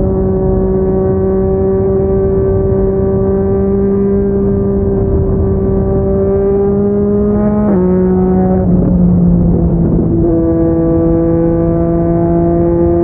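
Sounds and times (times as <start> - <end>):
gear shift pitch drop: 0.0 - 13.0
motorcycle engine accelerating: 0.0 - 13.0.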